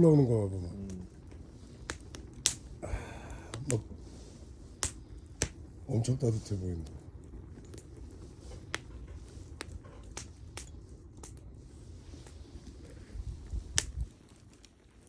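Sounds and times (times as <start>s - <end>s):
firewood crackling: 0.0s - 15.0s
low fire rumble: 0.0s - 15.0s
sharp fire pops: 0.0s - 15.0s.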